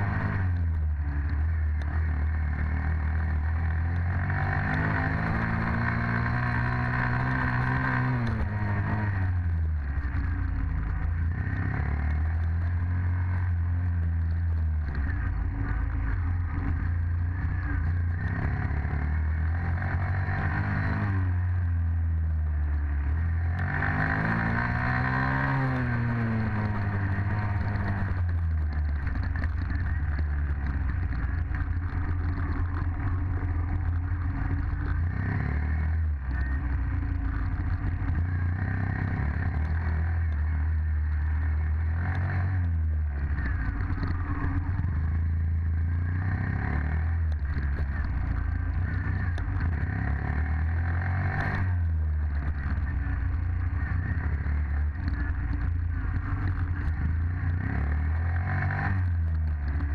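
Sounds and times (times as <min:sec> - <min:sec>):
dirt bike engine revving: 0:00.0 - 0:09.4, 0:14.8 - 0:21.5, 0:23.0 - 0:59.9.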